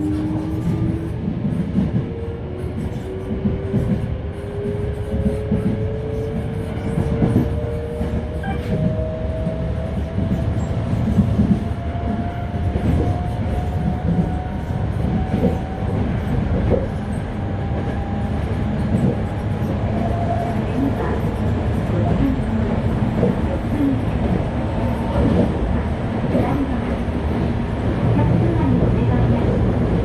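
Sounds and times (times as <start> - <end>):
low train rumble: 0.0 - 30.0.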